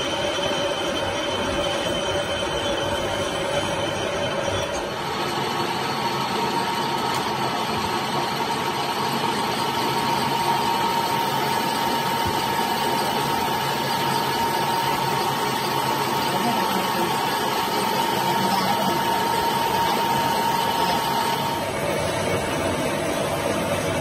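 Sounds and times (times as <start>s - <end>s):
metal lathe cutting: 0.0s - 24.0s
steady machine whine: 0.0s - 24.0s.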